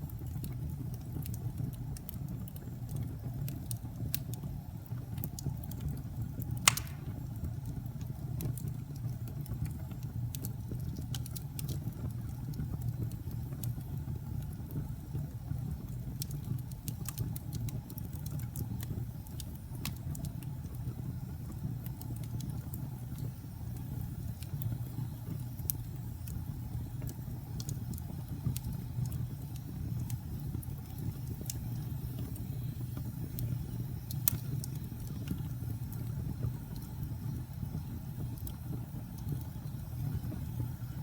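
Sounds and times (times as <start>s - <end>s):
fire crackling and popping: 0.0s - 41.0s
low fire rumble: 0.0s - 41.0s.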